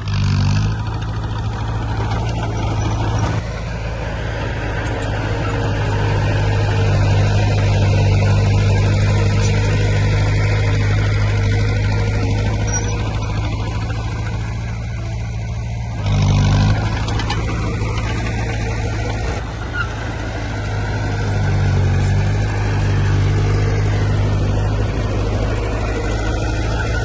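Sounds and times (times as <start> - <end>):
heavy diesel engine under load: 0.0 - 27.0.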